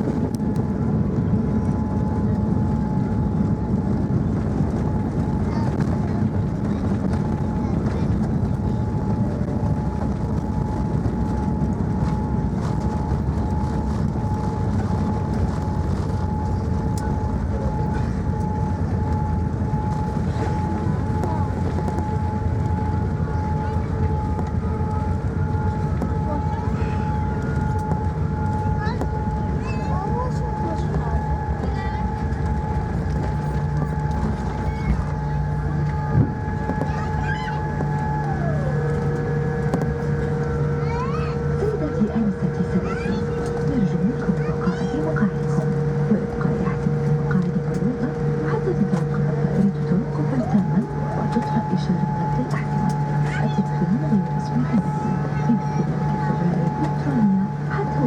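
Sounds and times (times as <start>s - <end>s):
airliner cabin engine rumble: 0.0s - 58.0s
thin steady whine: 0.0s - 58.0s.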